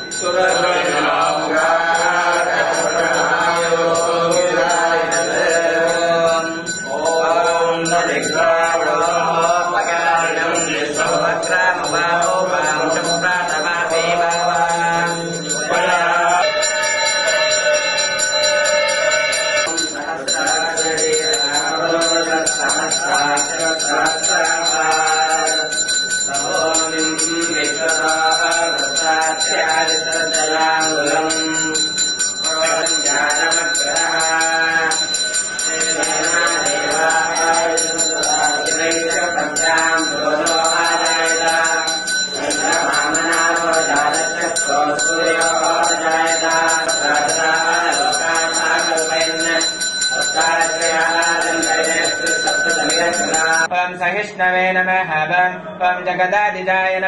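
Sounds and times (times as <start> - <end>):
small hand bell ringing rapidly: 0.0 - 53.7
mantras chanted: 0.0 - 57.0.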